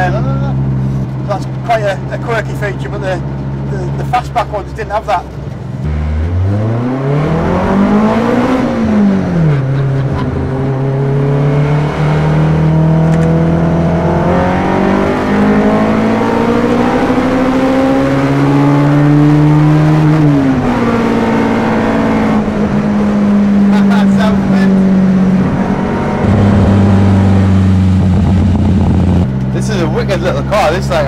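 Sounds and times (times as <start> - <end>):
motorbike engine revving in car: 5.8 - 31.0.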